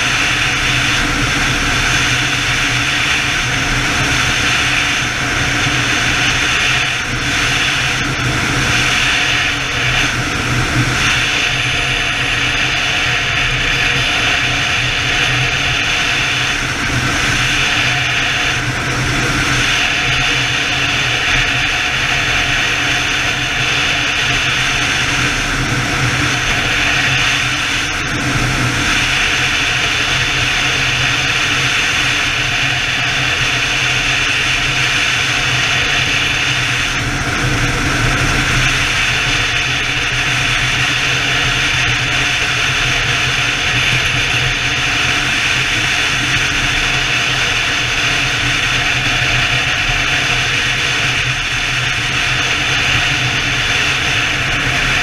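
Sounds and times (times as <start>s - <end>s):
motorcycle engine drone: 0.0s - 55.0s
wind rush: 0.0s - 55.0s.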